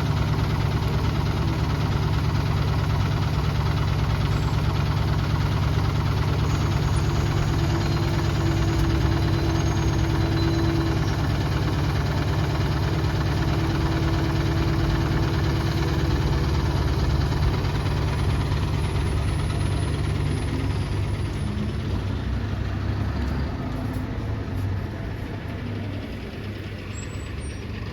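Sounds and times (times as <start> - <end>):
bus engine idling: 0.0 - 27.9.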